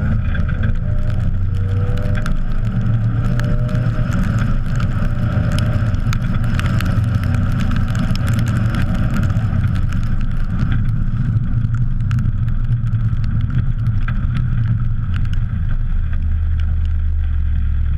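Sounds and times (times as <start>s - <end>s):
car engine running: 0.0s - 17.9s
wind and road noise: 0.0s - 17.9s
small clicks: 0.2s - 17.1s.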